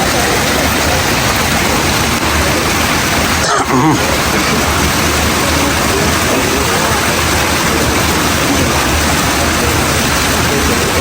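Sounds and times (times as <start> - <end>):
faint voices: 0.0 - 11.0
running water rushing: 0.0 - 11.0.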